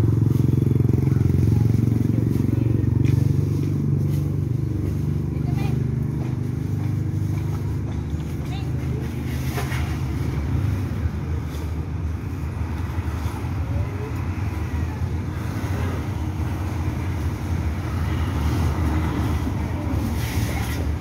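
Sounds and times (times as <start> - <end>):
cars passing: 0.0 - 21.0
motorcycle passing: 0.0 - 21.0.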